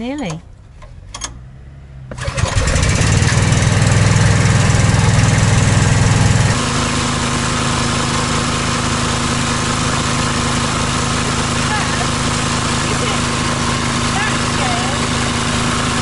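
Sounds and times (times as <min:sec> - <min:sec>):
petrol air compressor running: 0:02.1 - 0:16.0.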